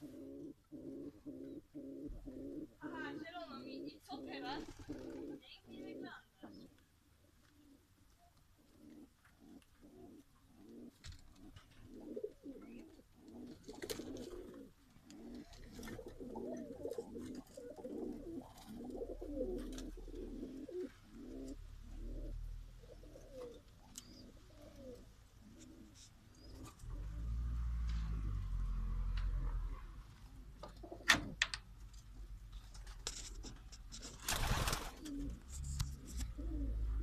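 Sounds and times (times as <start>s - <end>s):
pigeons cooing: 0.0s - 6.8s, 8.6s - 27.3s, 30.2s - 31.4s, 33.4s - 37.0s.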